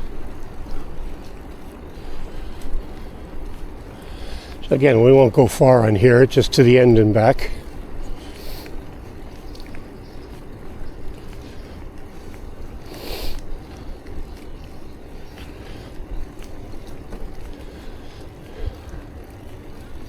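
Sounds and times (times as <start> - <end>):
hissing wind gusts: 0.0 - 20.0
wind noise while cycling: 0.0 - 20.0.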